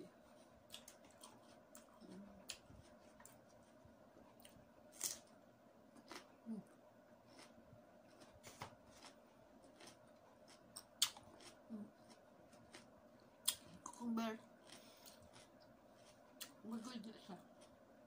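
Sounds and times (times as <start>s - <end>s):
chewing crunchy cucumber: 0.2s - 5.3s, 5.9s - 16.6s.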